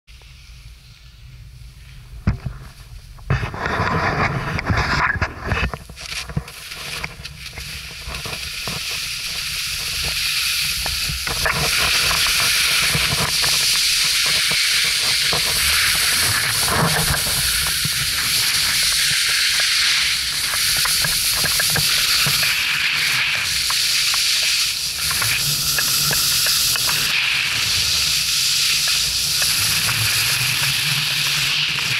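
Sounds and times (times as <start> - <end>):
skis scraping over snow: 1.8 - 31.9.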